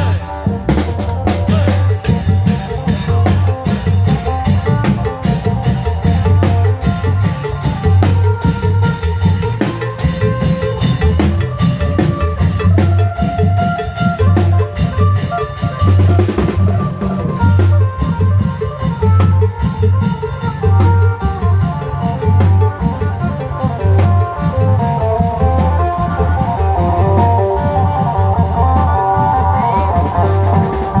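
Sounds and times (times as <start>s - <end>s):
lute melody: 0.0s - 31.0s.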